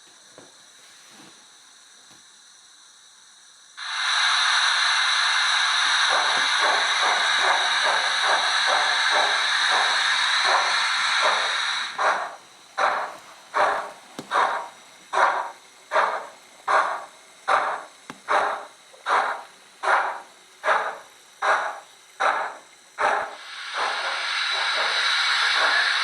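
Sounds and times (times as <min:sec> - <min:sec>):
steam hiss: 0:00.0 - 0:26.0
steam locomotive chuffs: 0:03.8 - 0:26.0.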